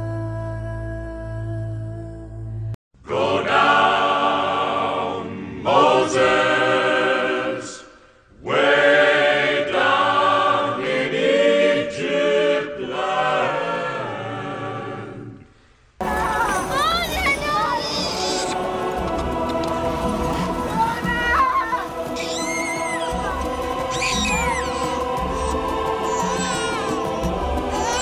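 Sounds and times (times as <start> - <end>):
choir singing a chant: 3.0 - 15.4, 16.0 - 28.0.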